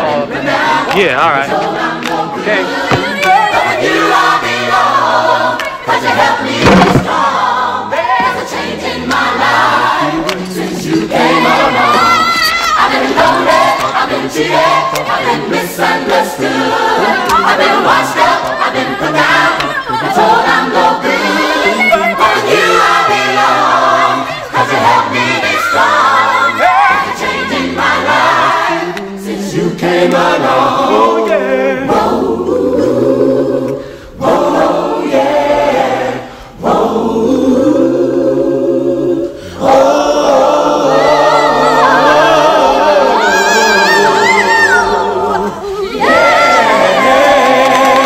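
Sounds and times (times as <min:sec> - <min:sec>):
gospel choir singing: 0:00.0 - 0:48.0.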